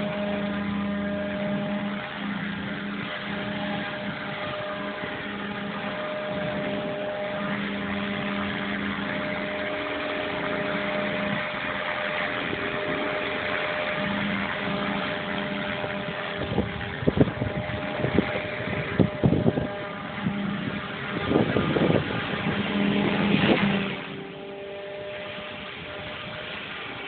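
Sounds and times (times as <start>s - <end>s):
helicopter motor and rotor drone: 0.0s - 27.0s
rushing wind: 0.0s - 27.0s.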